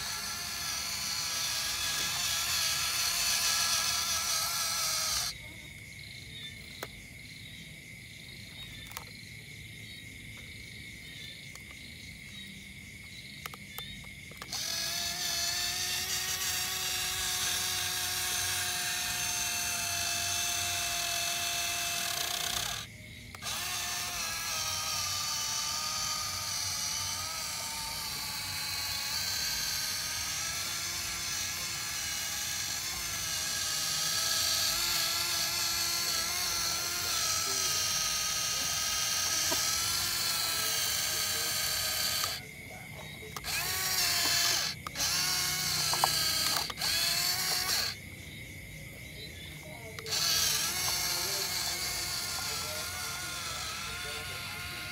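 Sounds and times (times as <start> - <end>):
toy electric motor whining: 0.0 - 54.9.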